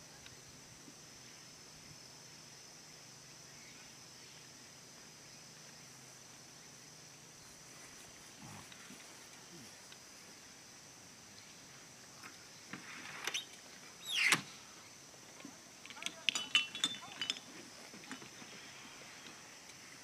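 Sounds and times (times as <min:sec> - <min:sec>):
faint high-pitched hum: 0:00.0 - 0:20.0.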